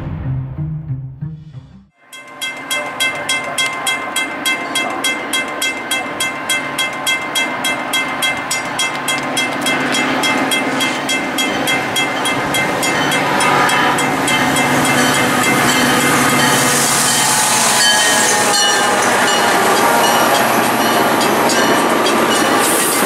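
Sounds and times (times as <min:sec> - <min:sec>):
crossing warning bell ringing: 0:02.0 - 0:23.0
train rumble: 0:02.3 - 0:23.0.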